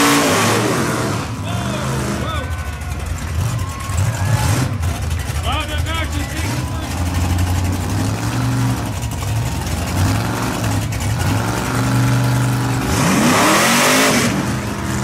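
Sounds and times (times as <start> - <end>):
truck engines revving under load: 0.0 - 15.0.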